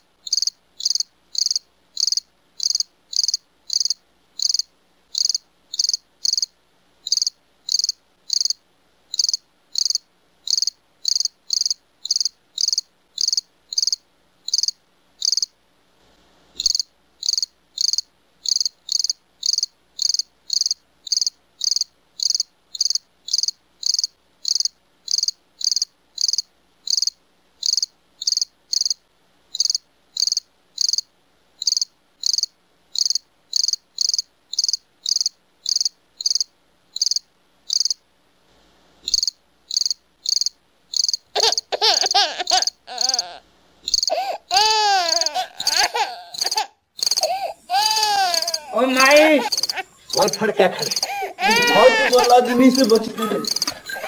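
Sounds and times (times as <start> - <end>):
crickets chirping: 0.0 - 15.5, 16.6 - 38.0, 39.0 - 54.0.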